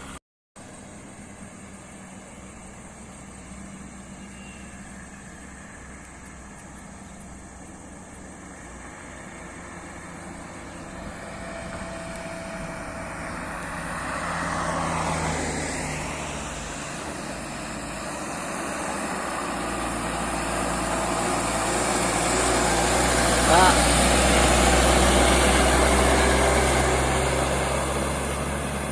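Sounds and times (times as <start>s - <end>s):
heavy truck engine approaching: 0.0s - 28.9s
vehicle passing: 1.5s - 28.9s.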